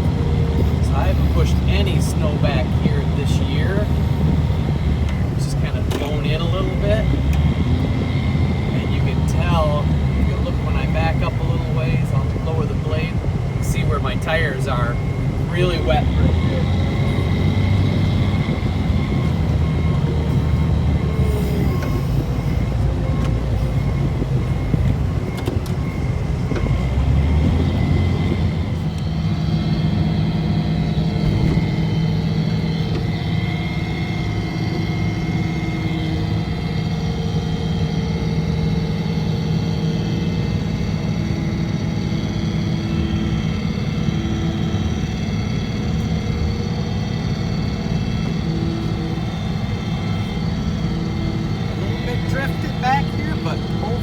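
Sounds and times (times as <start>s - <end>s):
snowplow engine running: 0.0s - 54.0s
thin high whine: 0.0s - 54.0s.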